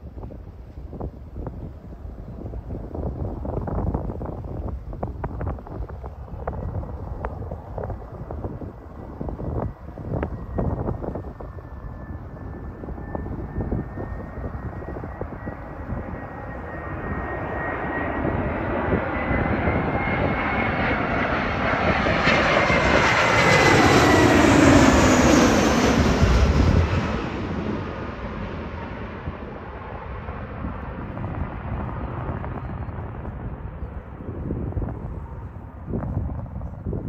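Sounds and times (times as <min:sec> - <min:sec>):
jet airliner flying overhead: 0:00.0 - 0:37.0.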